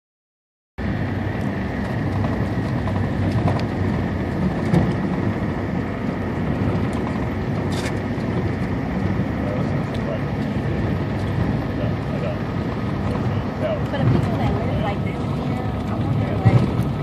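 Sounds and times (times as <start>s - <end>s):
vehicle rumbling on gravel road: 0.8s - 17.0s.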